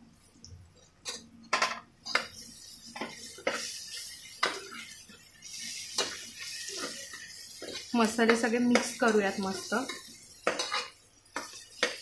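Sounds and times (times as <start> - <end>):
spoon scraping metal pot: 1.0 - 12.0.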